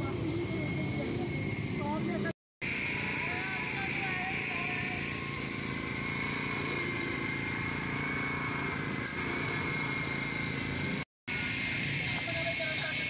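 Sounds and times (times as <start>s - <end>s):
constant high whine: 0.0s - 13.0s
small engine running: 0.0s - 13.0s.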